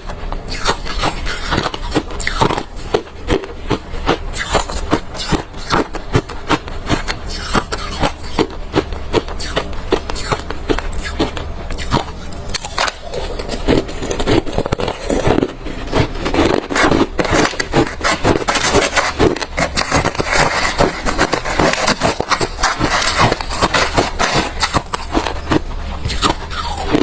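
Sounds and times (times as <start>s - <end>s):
crushed ice being chewed: 0.0s - 27.0s.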